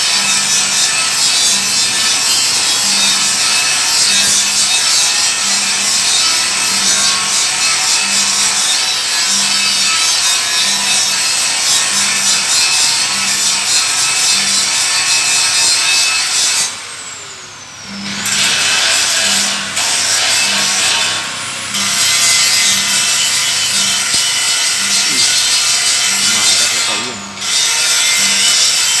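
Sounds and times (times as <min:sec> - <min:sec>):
grinder scraping metal: 0:00.0 - 0:17.2, 0:17.8 - 0:29.0.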